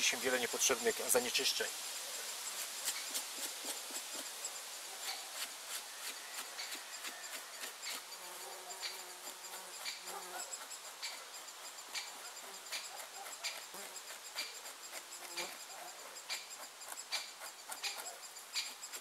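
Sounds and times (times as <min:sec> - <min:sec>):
insect buzzing: 0:00.0 - 0:19.0.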